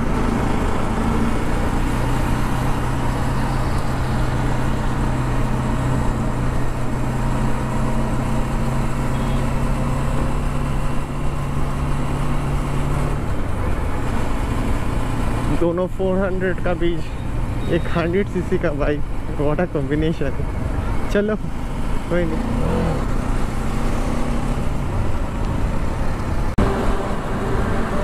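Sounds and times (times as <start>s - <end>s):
motorcycle engine cruising: 0.0s - 28.0s.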